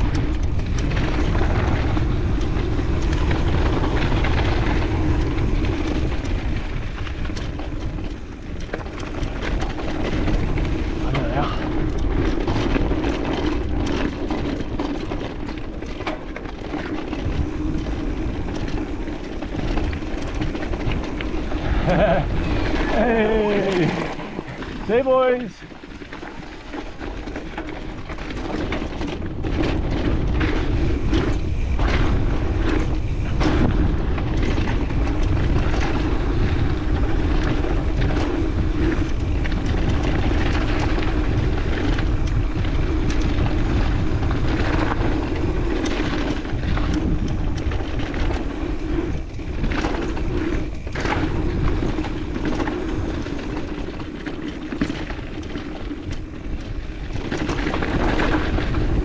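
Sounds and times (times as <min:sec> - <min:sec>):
bike knocks and rattles: 0:00.0 - 0:59.0
bike tyre rumble on dirt: 0:00.0 - 0:59.0.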